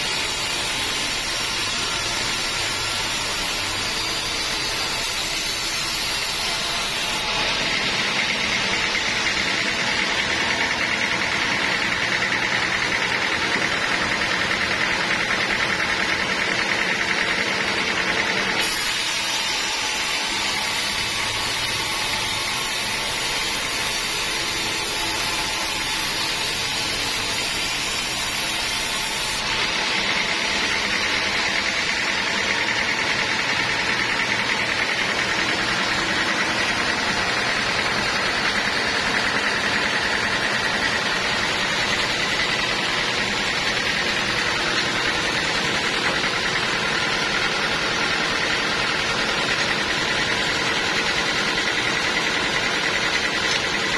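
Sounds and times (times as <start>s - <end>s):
sawmill saw hissing and whining: 0.0s - 53.9s.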